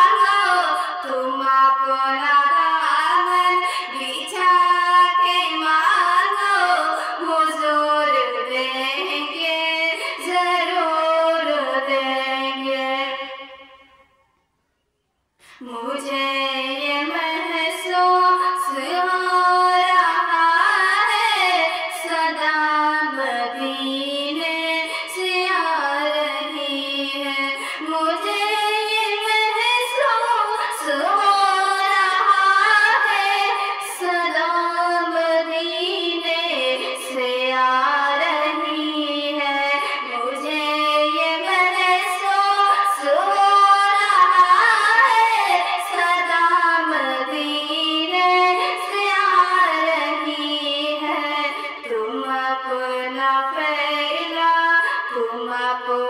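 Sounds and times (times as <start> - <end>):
woman singing: 0.0 - 13.8, 15.5 - 56.0.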